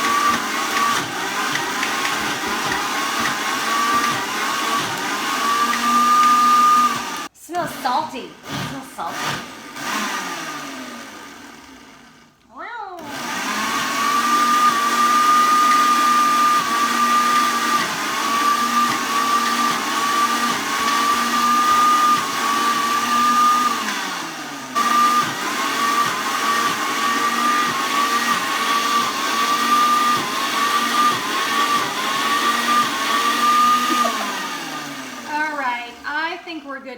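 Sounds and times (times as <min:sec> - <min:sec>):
electric blender motor running: 0:00.0 - 0:12.4, 0:13.0 - 0:36.6.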